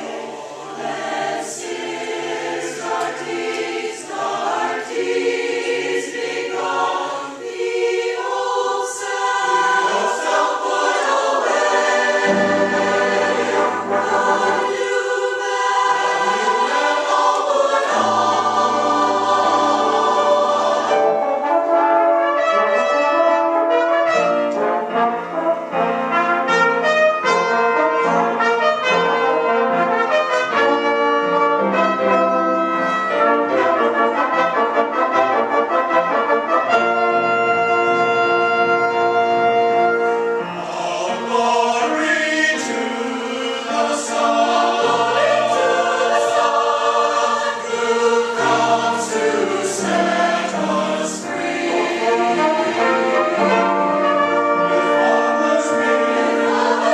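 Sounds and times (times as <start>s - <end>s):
choir singing: 0.0s - 56.9s
brass instruments playing: 4.1s - 56.9s.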